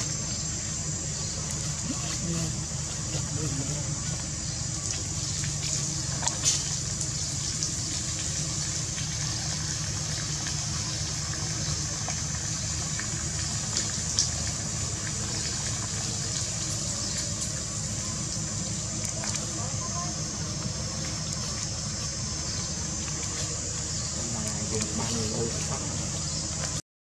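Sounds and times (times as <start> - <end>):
water trickling and dripping: 0.0 - 26.8.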